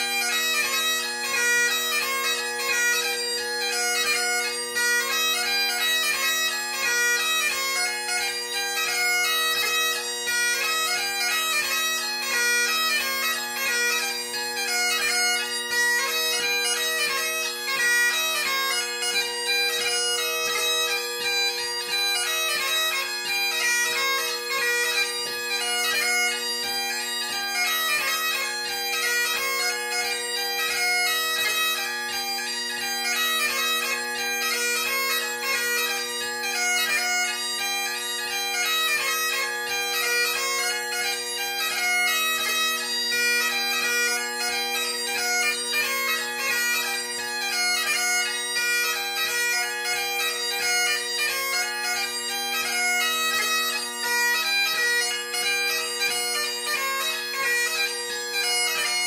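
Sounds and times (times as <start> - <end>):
solo bagpipe dance tune: 0.0 - 59.0.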